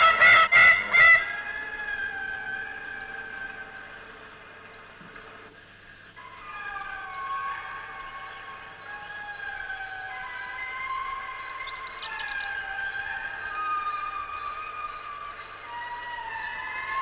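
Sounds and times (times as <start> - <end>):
lemurs wailing: 0.0 - 5.5, 6.2 - 17.0.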